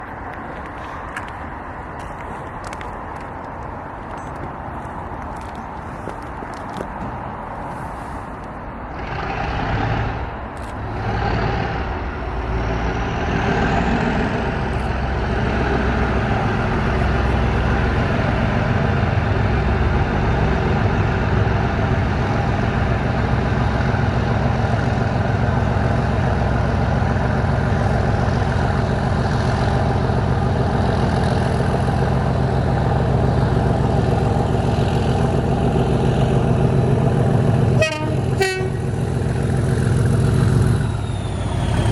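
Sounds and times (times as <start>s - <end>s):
diesel locomotive engine working hard: 0.0s - 41.9s.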